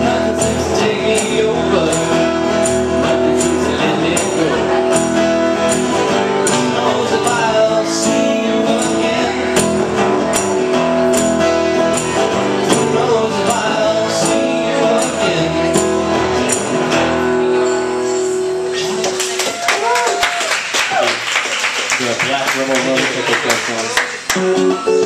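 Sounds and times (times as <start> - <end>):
acoustic guitars playing chords: 0.0 - 19.6, 21.8 - 25.0.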